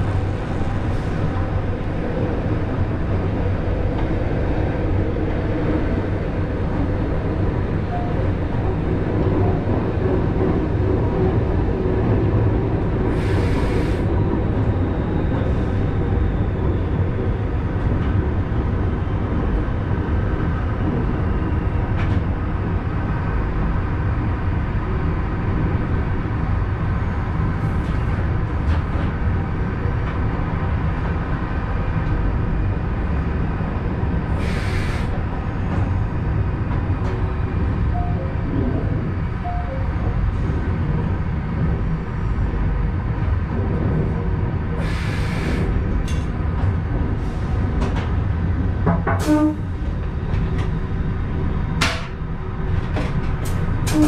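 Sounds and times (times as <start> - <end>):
steady train whine: 0.0 - 54.0
train wheels rumbling on rail: 0.0 - 54.0.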